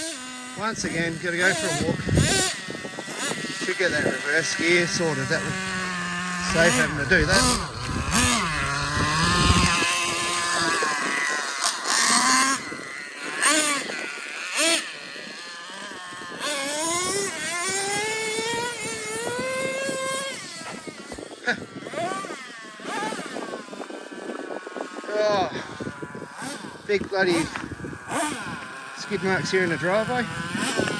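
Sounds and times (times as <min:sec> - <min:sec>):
small engine revving: 0:00.0 - 0:30.9.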